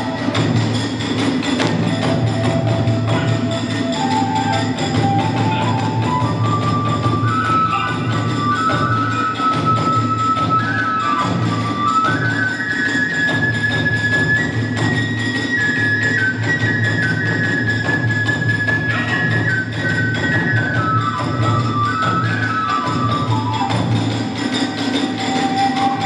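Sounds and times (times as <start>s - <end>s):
bamboo flute melody: 0.0s - 26.0s.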